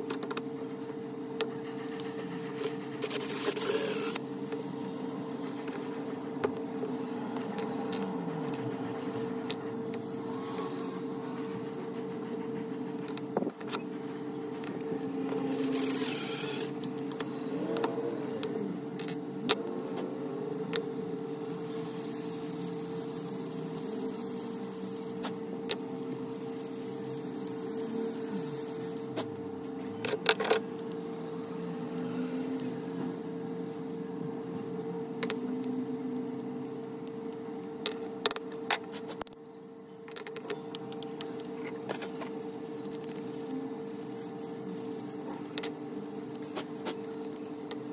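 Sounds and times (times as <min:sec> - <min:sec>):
background hum: 0:00.0 - 0:47.9.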